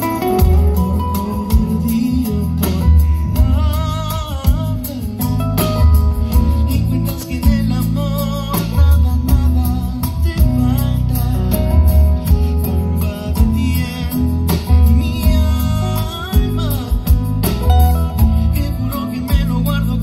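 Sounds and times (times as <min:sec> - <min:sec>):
drums: 0:00.0 - 0:20.0
electric guitar: 0:00.0 - 0:20.0
man singing: 0:00.0 - 0:20.0.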